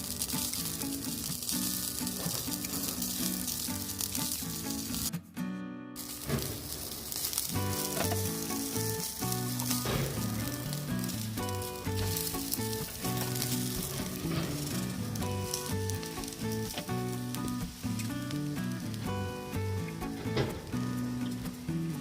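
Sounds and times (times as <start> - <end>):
food sizzling: 0.0 - 5.1, 6.0 - 22.0
background music: 0.0 - 22.0.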